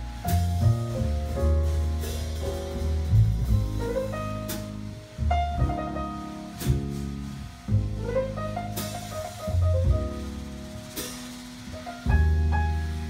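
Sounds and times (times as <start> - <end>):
double bass notes: 0.0 - 13.0
light drum strokes: 0.0 - 13.0
piano chords: 0.0 - 13.0.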